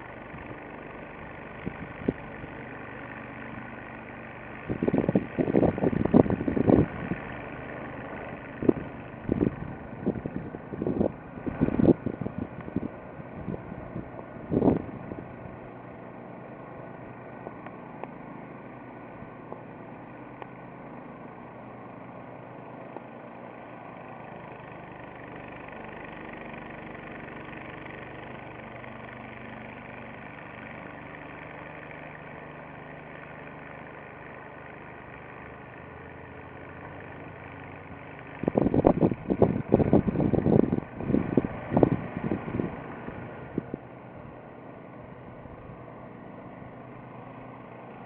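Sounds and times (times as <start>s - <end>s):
steady engine-like hum: 0.0s - 48.0s.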